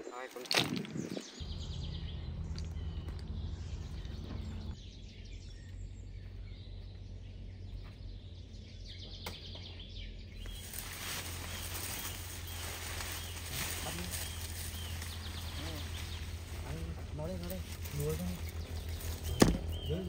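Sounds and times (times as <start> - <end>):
low hum: 0.8 - 20.0.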